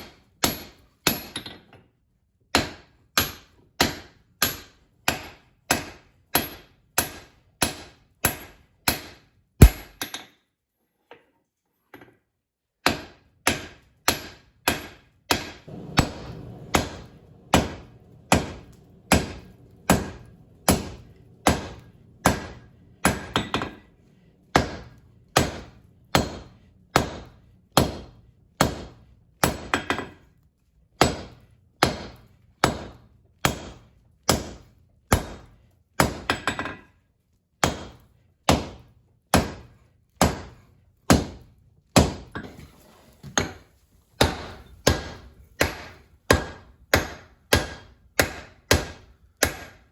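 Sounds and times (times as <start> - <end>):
hammer striking hot steel on anvil: 0.4 - 1.6, 2.5 - 10.3, 12.8 - 23.9, 24.5 - 30.2, 31.0 - 36.9, 37.6 - 41.4, 42.0 - 42.5, 43.4 - 49.9.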